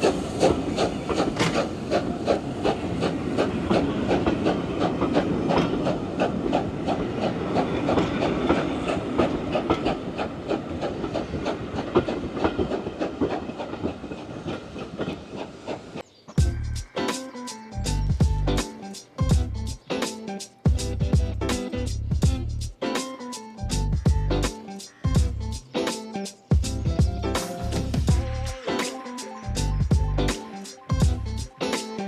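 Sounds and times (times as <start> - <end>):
steam train knocking and clattering: 0.0 - 32.0.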